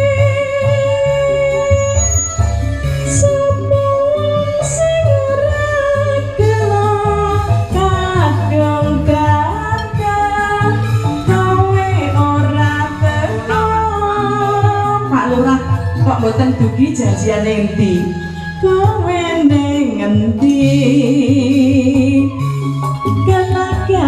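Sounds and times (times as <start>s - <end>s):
guitar: 0.0s - 24.0s
steady bass line: 2.6s - 24.0s.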